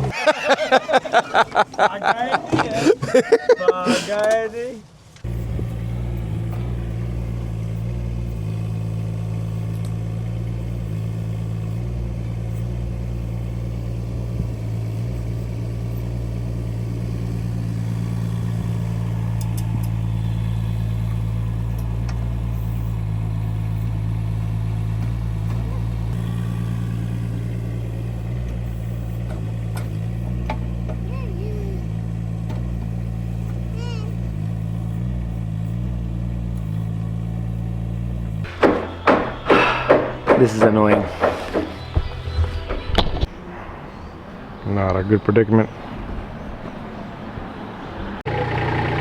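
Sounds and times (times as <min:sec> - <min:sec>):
small excavator engine running: 0:00.0 - 0:04.0, 0:04.8 - 0:45.1, 0:45.7 - 0:49.0.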